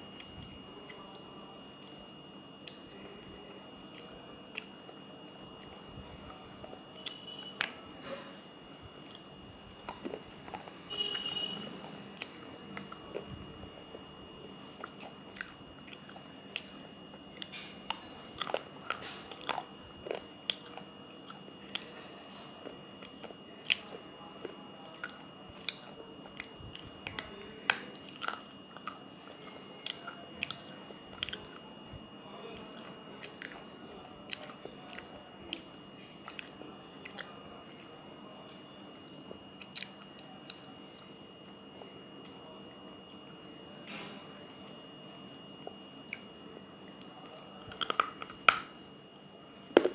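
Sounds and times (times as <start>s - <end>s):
person chewing crunchy clay: 0.0s - 42.4s, 43.0s - 48.8s, 49.6s - 49.9s.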